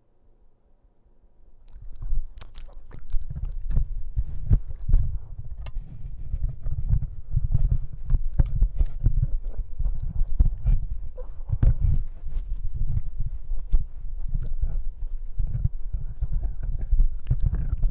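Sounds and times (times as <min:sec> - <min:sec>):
teeth clicking: 0:01.6 - 0:05.8, 0:06.5 - 0:17.9
puppy chewing on microphone: 0:01.6 - 0:17.9.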